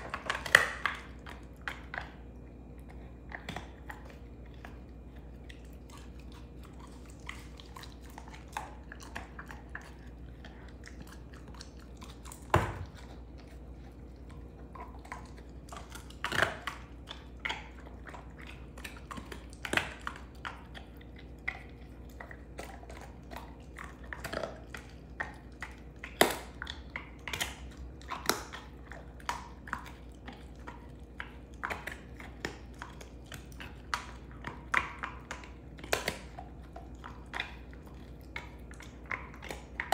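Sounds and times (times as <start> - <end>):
dog crunching a bone: 0.0 - 39.9.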